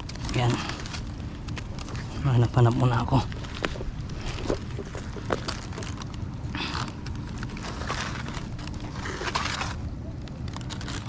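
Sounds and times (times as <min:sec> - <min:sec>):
steady low rumble: 0:00.0 - 0:11.0
stones clicking and scraping: 0:00.0 - 0:11.0.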